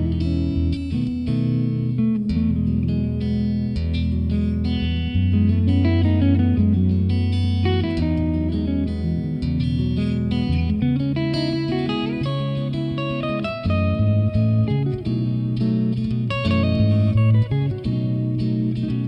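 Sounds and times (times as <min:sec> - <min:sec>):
guitar music: 0:00.0 - 0:19.0
low bass line: 0:00.0 - 0:19.0.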